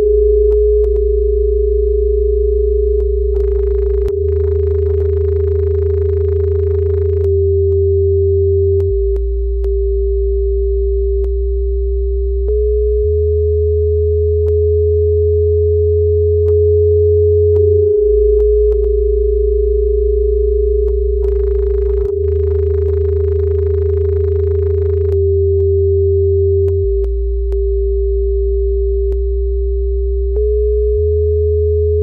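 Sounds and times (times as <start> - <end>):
deep bass drone: 0.0 - 32.0
steady pure electronic tone: 0.0 - 32.0.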